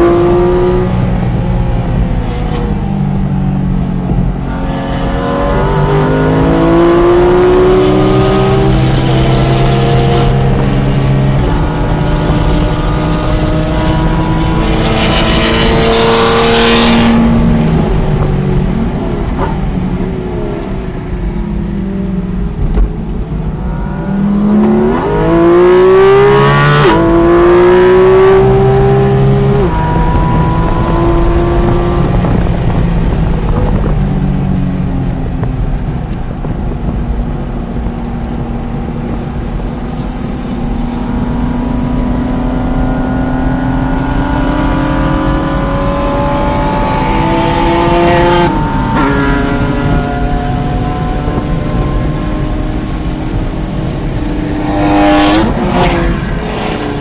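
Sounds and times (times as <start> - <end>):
car engine revving through upshifts: 0.0 - 21.2, 22.7 - 33.9, 36.8 - 57.0
wind rush: 0.0 - 57.0.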